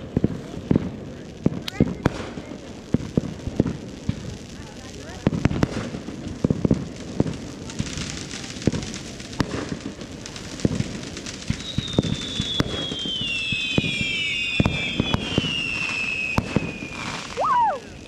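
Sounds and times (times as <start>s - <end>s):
fireworks popping and banging: 0.0s - 18.0s
whistling fireworks: 0.0s - 18.0s.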